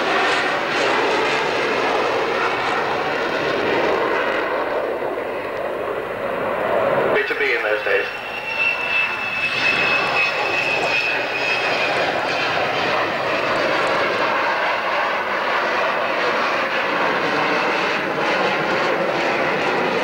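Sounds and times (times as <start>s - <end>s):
high jet engine whine: 0.0s - 20.0s
rushing jet noise: 0.0s - 20.0s.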